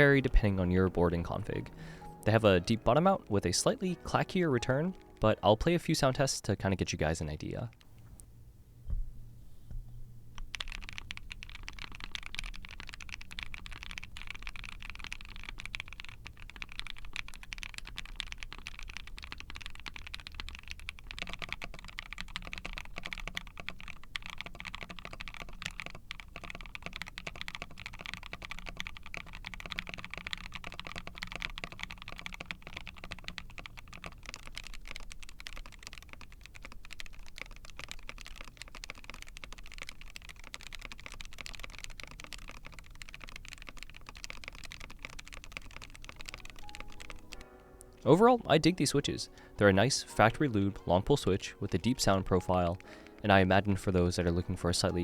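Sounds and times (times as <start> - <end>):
fast typing on mechanical keyboard: 0.0 - 8.0, 10.3 - 55.0.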